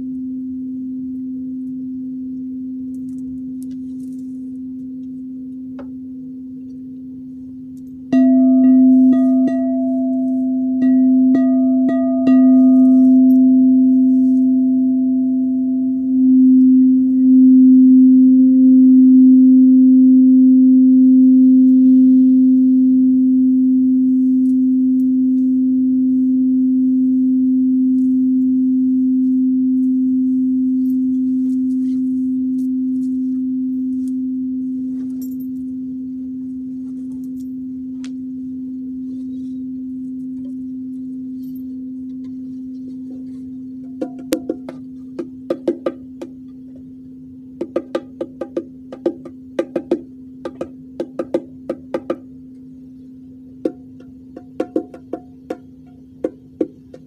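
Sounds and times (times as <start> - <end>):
singing bowl humming: 0.0 - 57.0
singing bowl struck and tapped: 5.0 - 6.9, 7.8 - 36.1, 37.1 - 57.0.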